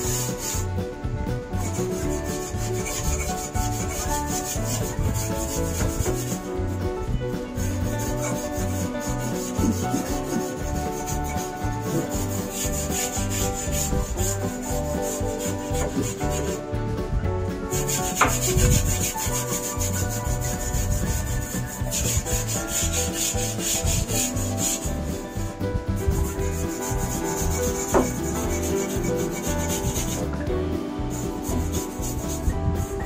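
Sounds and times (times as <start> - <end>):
bristle brush scrubbing sheet metal: 0.0 - 33.0.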